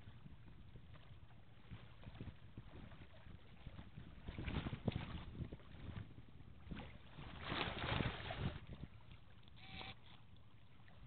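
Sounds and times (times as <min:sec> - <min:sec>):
wind gusting over microphone: 0:00.0 - 0:09.0.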